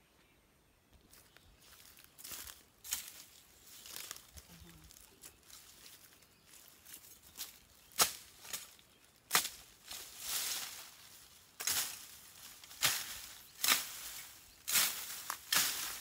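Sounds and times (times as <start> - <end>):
rustling leaves: 1.0 - 16.0.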